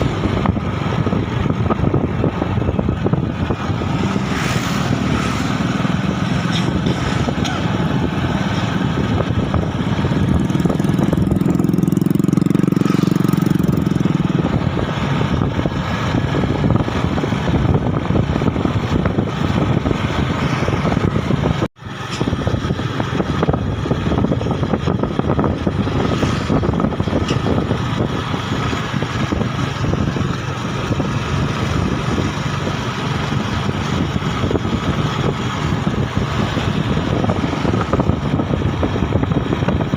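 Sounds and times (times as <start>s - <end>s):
motorbike engine running: 0.0s - 39.9s
road noise: 0.0s - 39.9s
wind on microphone: 0.0s - 39.9s.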